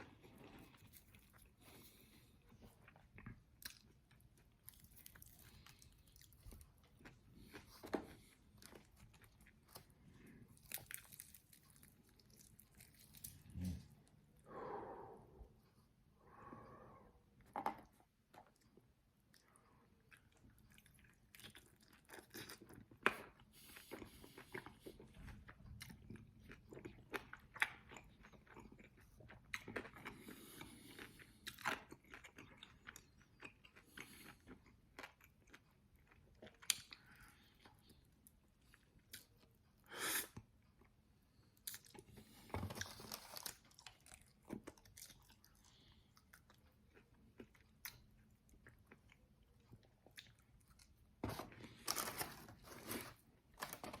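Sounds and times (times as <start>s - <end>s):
crunchy chewing of fried chicken: 0.0s - 13.8s, 17.9s - 54.0s.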